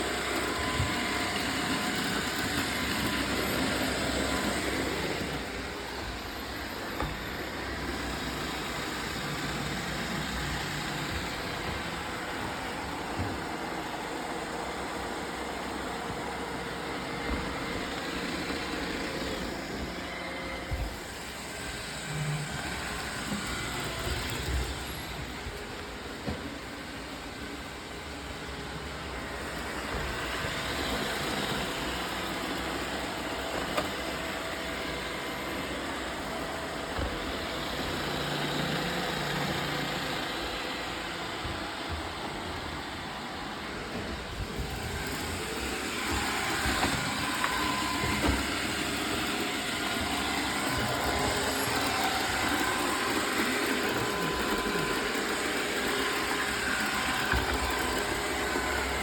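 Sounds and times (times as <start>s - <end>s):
robot vacuum whirring: 0.0s - 59.0s.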